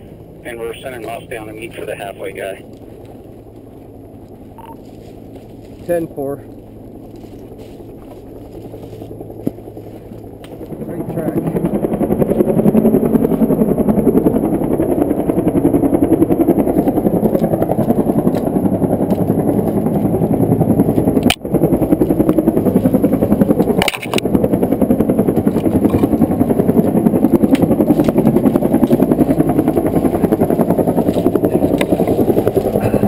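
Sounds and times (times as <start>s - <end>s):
helicopter rotor chop: 0.0s - 33.0s.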